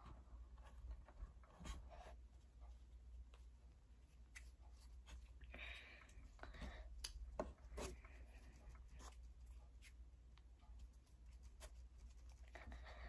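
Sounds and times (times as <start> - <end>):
low steady hum: 0.0 - 13.0
palms rubbing modelling clay: 0.0 - 13.0.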